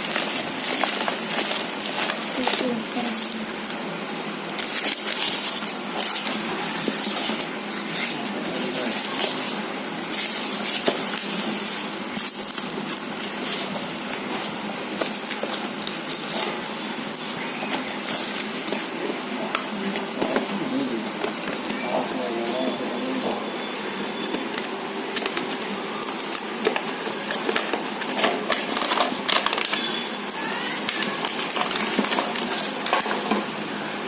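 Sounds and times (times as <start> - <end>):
plastic packaging crinkling: 0.0 - 23.4, 24.1 - 33.6.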